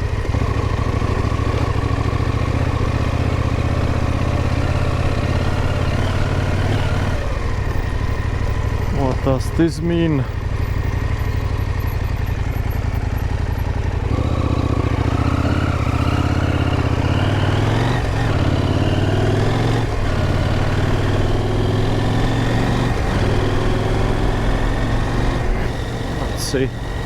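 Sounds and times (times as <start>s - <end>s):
motorcycle engine under load: 0.0s - 27.0s.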